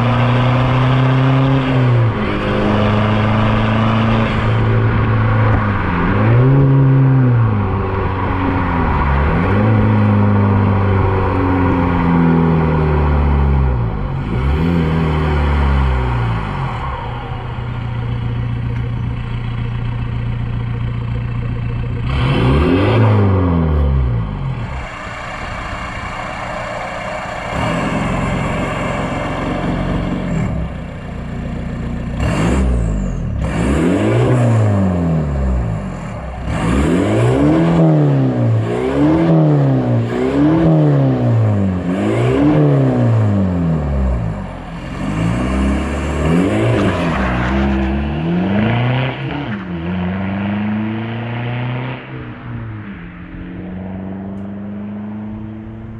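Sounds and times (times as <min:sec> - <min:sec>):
diesel car engine idling and revving: 0:00.0 - 0:55.9.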